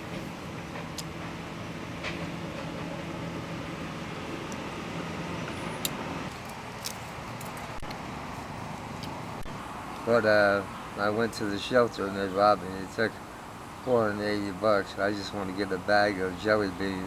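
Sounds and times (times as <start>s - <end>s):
road traffic noise: 0.0s - 17.0s
vehicle engine hum: 0.0s - 17.0s.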